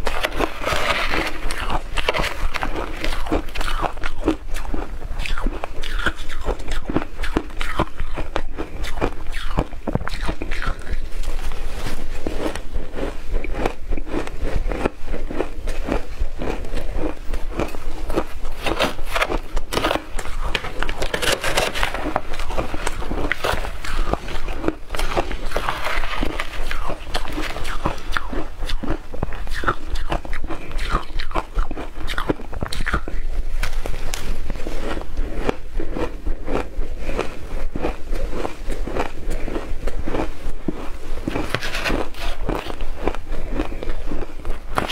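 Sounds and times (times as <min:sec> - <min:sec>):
chewing crunchy ice: 0:00.0 - 0:44.9.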